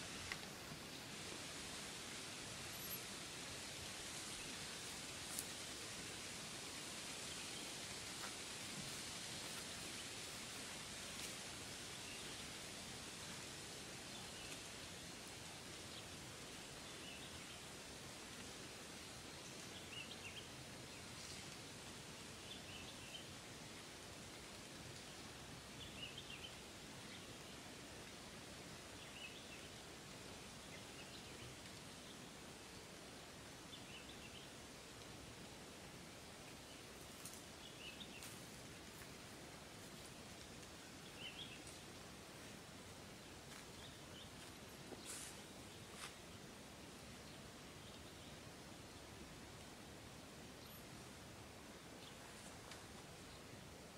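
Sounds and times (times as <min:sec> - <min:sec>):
steady hiss: 0:00.0 - 0:53.9.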